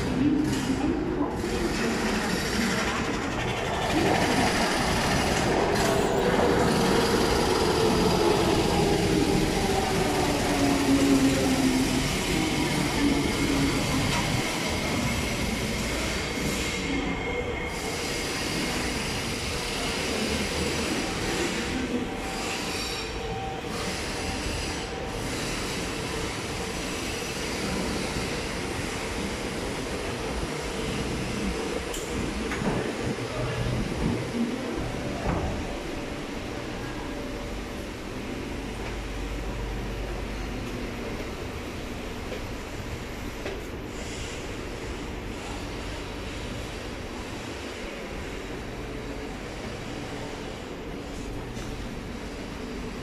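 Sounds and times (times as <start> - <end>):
noisy station ambience: 0.0 - 53.0
wheels rumbling on rail: 0.0 - 53.0.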